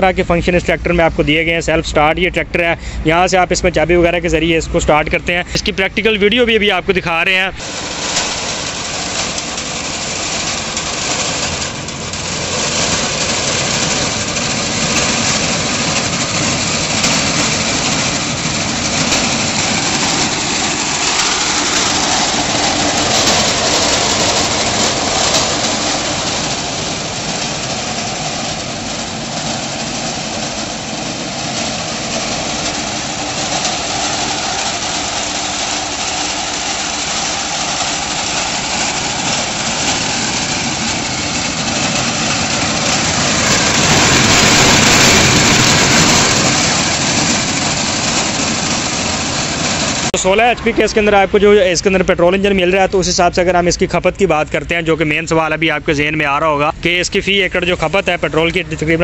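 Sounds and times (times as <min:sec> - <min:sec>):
petrol engine running: 0:00.0 - 0:59.0.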